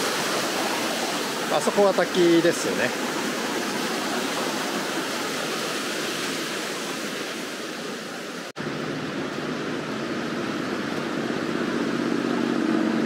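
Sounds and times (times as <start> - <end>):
dull rushing noise: 0.0 - 13.0
waterfall rushing: 0.0 - 13.0.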